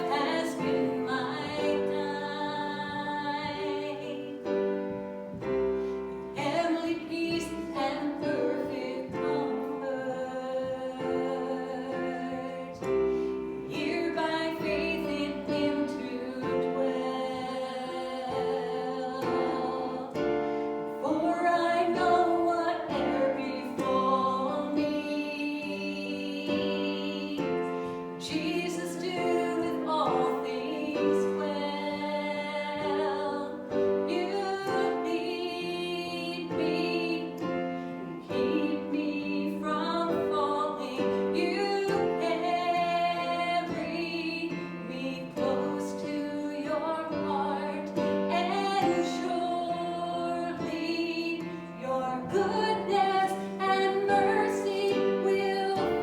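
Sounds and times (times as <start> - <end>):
voices singing a hymn: 0.0 - 56.0.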